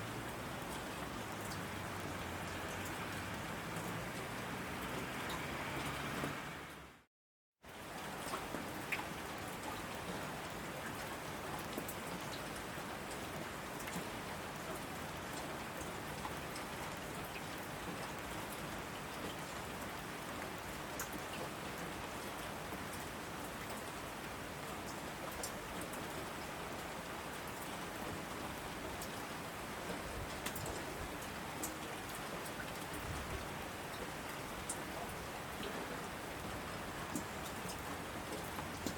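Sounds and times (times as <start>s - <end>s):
heavy rain on asphalt: 0.0s - 7.1s, 7.7s - 38.9s.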